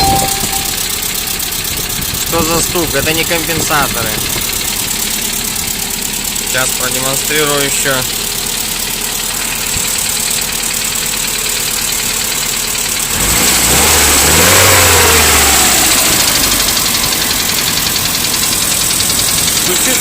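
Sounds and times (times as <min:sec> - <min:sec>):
engine idling and revving: 0:00.5 - 0:20.0.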